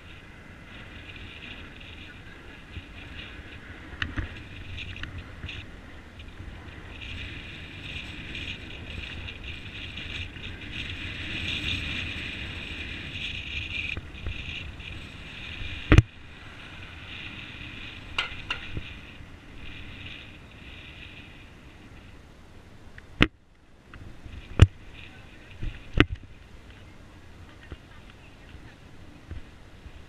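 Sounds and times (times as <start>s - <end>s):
wind and riding noise: 0.0s - 30.0s.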